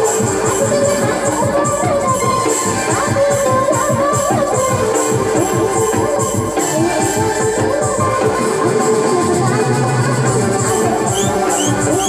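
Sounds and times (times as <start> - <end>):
live band with keyboard and drums: 0.0 - 12.0.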